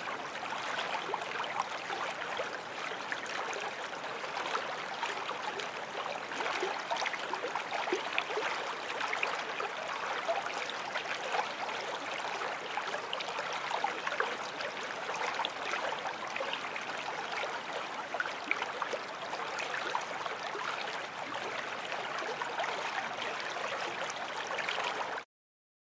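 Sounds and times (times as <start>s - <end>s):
stream babbling: 0.0s - 25.2s.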